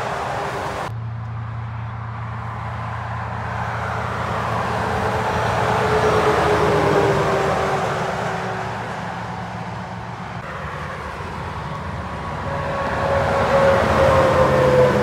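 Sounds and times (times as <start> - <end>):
truck whine dropping in pitch: 0.0 - 15.0
trucks passing at speed: 0.0 - 15.0.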